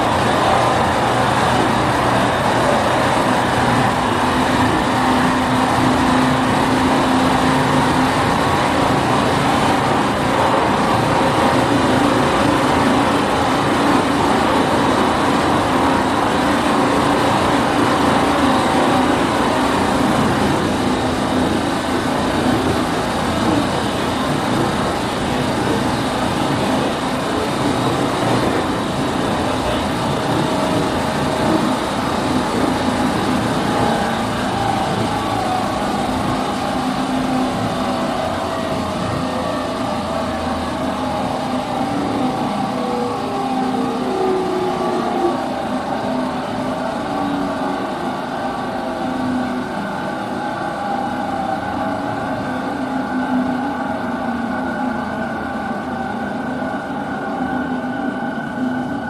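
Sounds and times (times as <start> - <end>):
electric train rumble with droning tones: 0.0 - 59.0.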